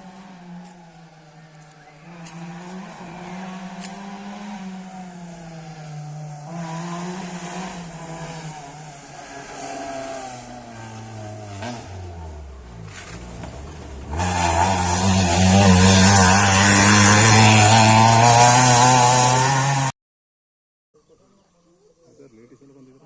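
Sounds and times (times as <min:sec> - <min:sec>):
rally car engine running hard: 0:00.0 - 0:19.9.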